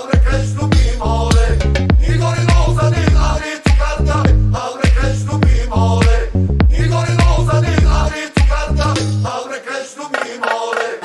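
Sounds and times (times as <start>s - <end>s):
background music with drum beat: 0.0s - 9.3s
deep bass line: 0.2s - 9.3s.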